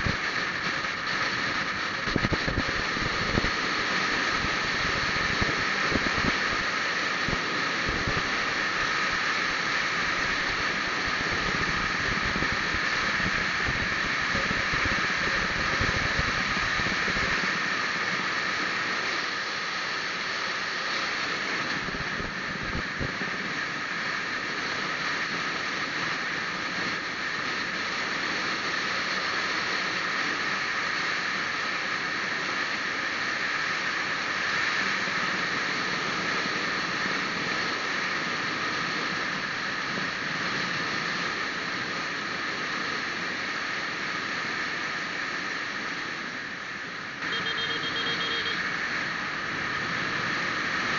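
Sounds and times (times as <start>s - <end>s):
vehicle road and wind noise: 0.0s - 50.9s.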